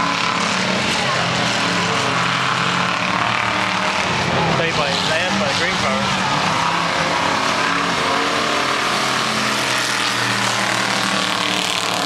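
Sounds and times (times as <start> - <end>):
race car engines running: 0.0 - 12.0
race car passing close: 0.0 - 12.0.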